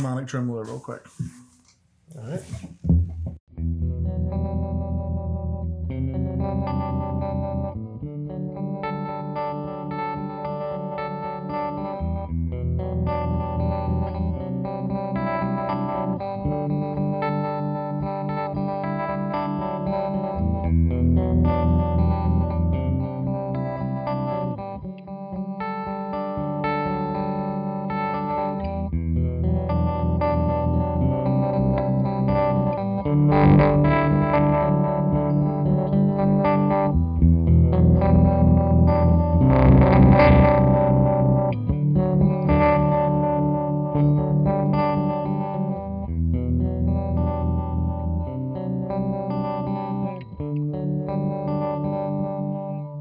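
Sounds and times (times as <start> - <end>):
electric guitar chords pulsing: 2.9 - 53.0.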